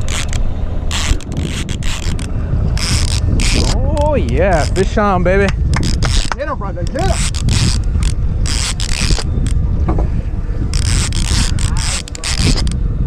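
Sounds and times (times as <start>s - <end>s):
fishing reel clicker ratcheting: 0.0s - 5.0s, 5.7s - 9.6s, 10.7s - 12.8s
wind rumble on microphone: 0.0s - 13.0s.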